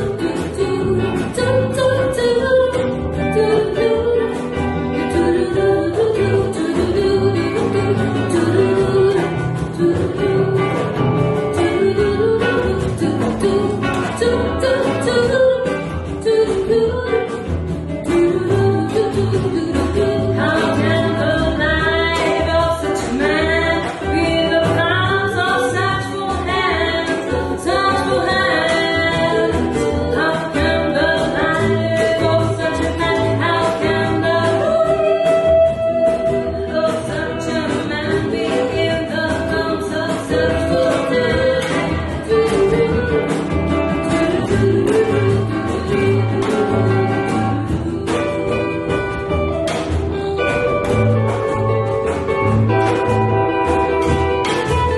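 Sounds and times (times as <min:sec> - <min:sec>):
acoustic guitar: 0:00.0 - 0:54.9
double bass: 0:00.0 - 0:54.9
women singing: 0:00.0 - 0:54.9.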